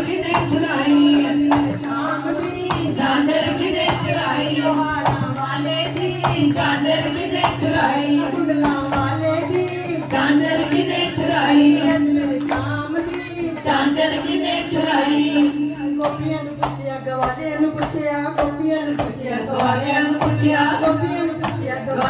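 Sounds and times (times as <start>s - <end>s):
hand-clapping: 0.0s - 22.0s
women singing devotional song: 0.0s - 22.0s.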